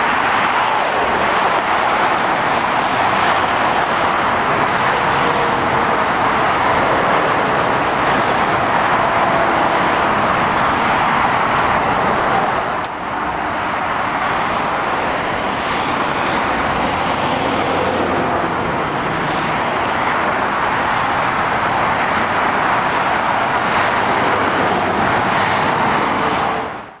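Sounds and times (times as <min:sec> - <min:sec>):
traffic passing at speed: 0:00.0 - 0:27.0.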